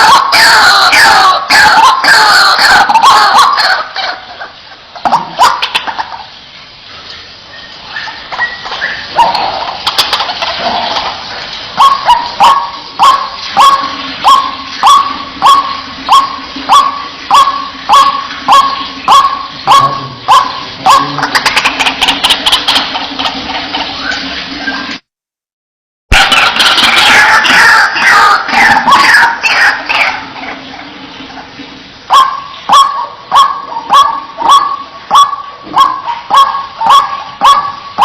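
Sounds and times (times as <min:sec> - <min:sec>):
waterhen harsh calls: 0:00.0 - 0:25.0, 0:26.1 - 0:38.0.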